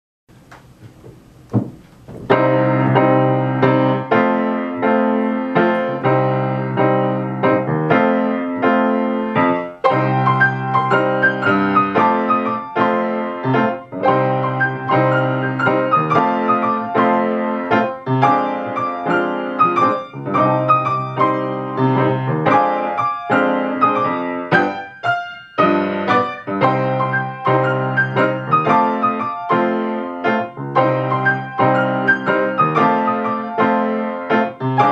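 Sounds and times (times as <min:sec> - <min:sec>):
blues piano duet: 0:00.3 - 0:34.9.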